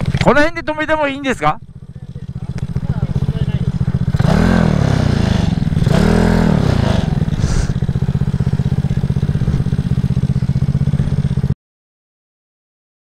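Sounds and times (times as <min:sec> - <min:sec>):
scooter engine idling: 0:00.0 - 0:11.6.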